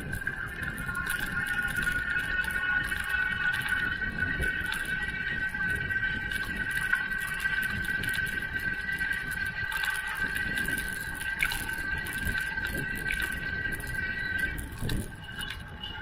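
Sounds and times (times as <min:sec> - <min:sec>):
bicycle road noise: 0:00.0 - 0:16.0
steady high whine: 0:00.0 - 0:16.0
wind rumble on microphone: 0:00.0 - 0:16.0.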